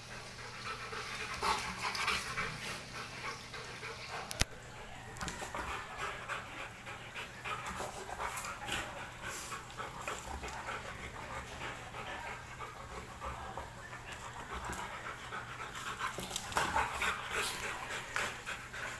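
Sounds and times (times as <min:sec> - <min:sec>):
dog panting hard: 0:00.0 - 0:04.8, 0:05.4 - 0:18.9.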